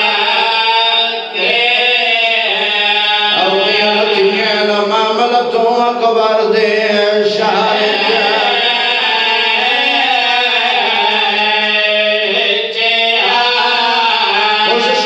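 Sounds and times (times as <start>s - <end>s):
man chanting with echo: 0.0s - 15.0s.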